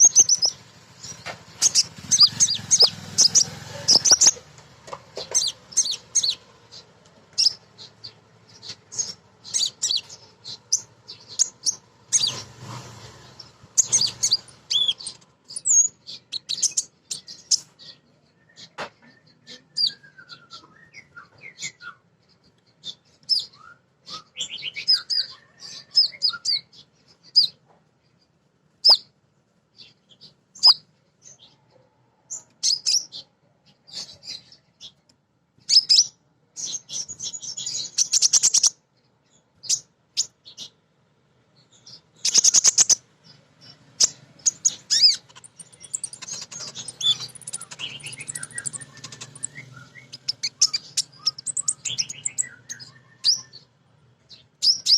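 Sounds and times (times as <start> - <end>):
bird chirping and twittering: 0.0 - 35.0, 35.6 - 40.8, 41.6 - 54.9.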